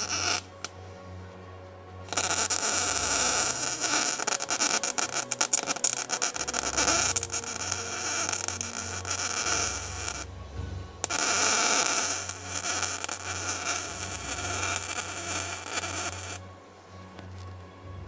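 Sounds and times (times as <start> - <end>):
welding arc crackling: 0.0 - 1.2, 2.1 - 17.5
steady low hum: 0.0 - 18.0.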